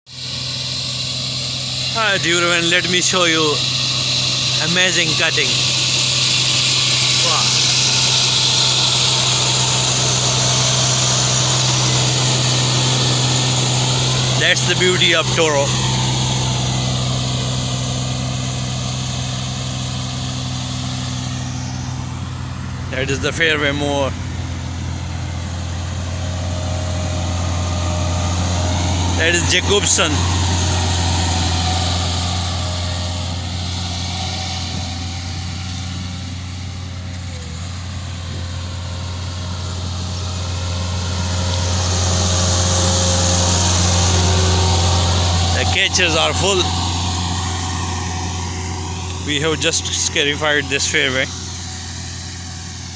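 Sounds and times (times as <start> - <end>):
mower engine running: 0.1 - 52.9.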